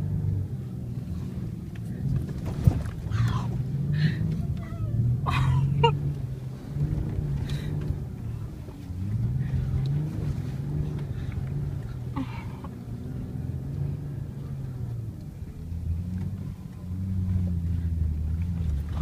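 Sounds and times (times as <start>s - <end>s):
engine heard from inside car: 0.0s - 19.0s.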